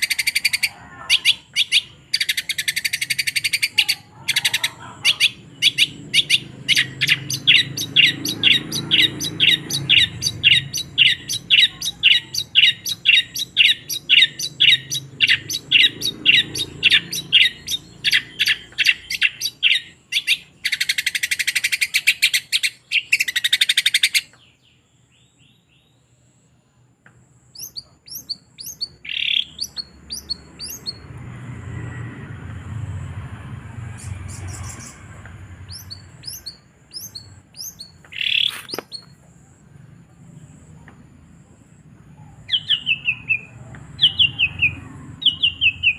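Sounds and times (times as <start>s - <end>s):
bird singing repeated notes: 0.0s - 26.6s, 27.2s - 31.1s, 33.9s - 39.8s, 40.4s - 45.9s.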